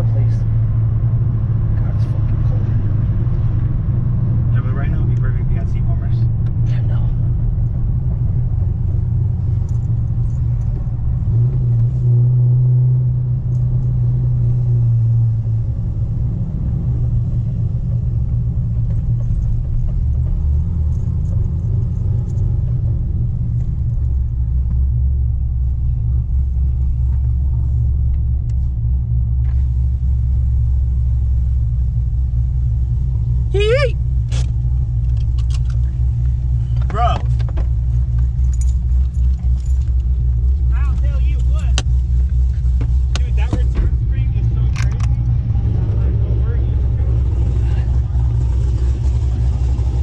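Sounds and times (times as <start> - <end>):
engine droning inside car cabin: 0.0 - 50.0.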